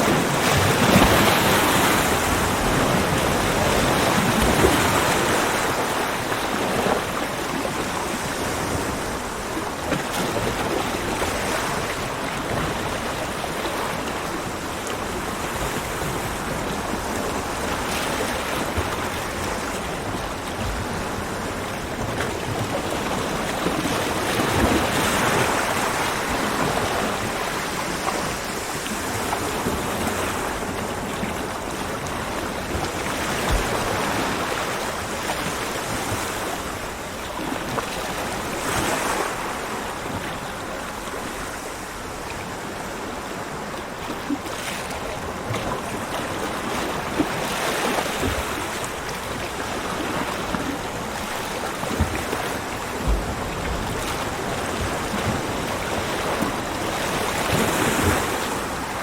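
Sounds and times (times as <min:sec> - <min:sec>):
ocean waves on beach: 0:00.0 - 0:59.0.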